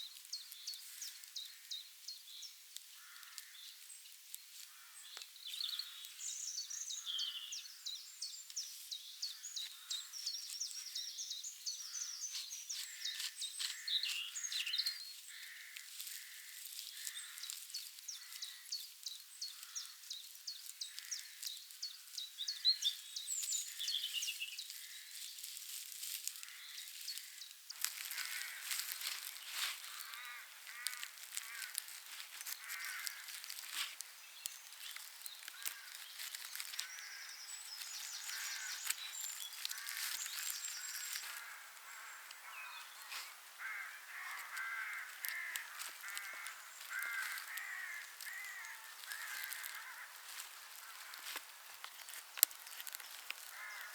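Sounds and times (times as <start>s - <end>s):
birds chirping: 4.7s - 53.9s.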